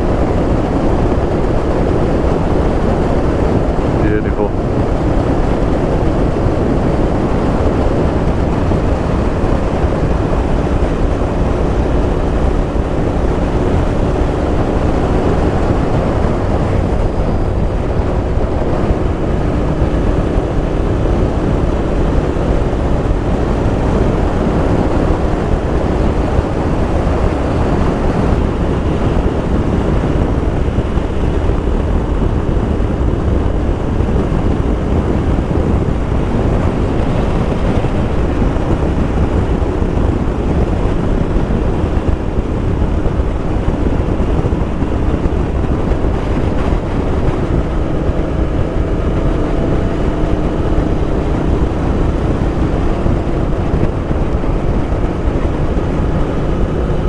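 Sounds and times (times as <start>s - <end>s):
motorcycle engine cruising: 0.0s - 57.0s
wind rush on microphone: 0.0s - 57.0s.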